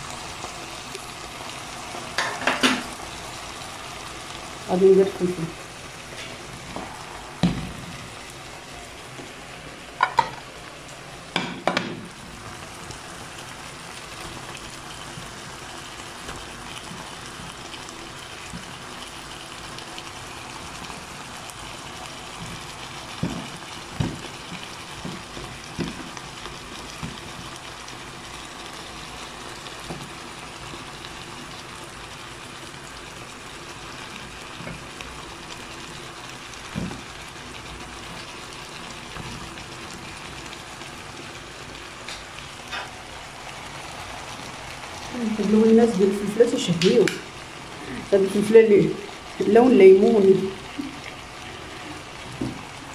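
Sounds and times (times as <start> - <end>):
food sizzling in a frying pan: 0.0 - 52.9.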